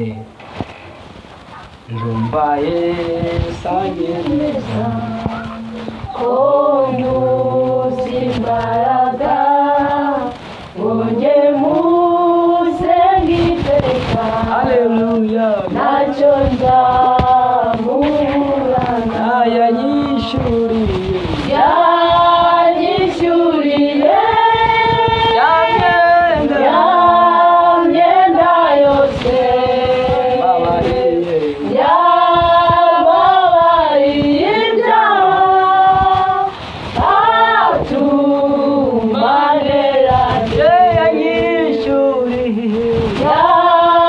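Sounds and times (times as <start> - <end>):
choir singing: 3.0 - 44.0.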